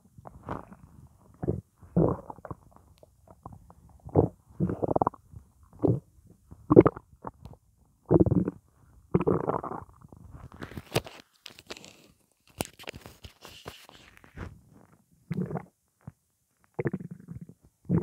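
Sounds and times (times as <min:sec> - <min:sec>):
stomach gurgling and rumbling: 0:00.0 - 0:12.1, 0:12.9 - 0:18.0.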